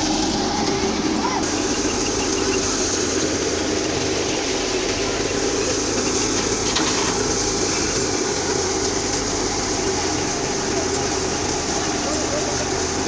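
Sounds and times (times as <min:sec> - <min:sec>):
thresher machine running: 0:00.0 - 0:13.0.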